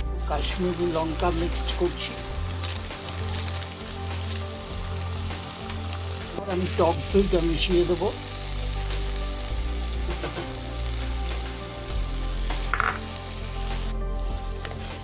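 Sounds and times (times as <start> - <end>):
sauce sizzling in hot oil: 0.0 - 15.0.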